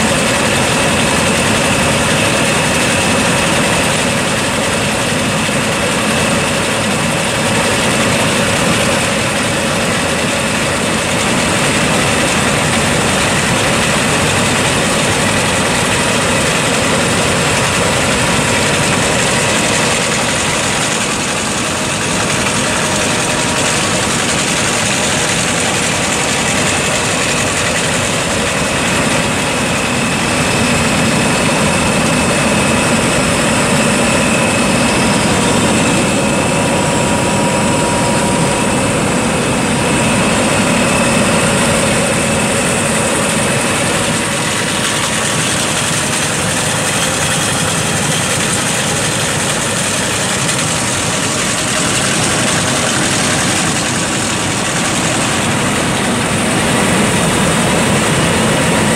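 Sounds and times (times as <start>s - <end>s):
diesel engine running: 0.0s - 58.9s
high-pitched whine: 0.0s - 58.9s.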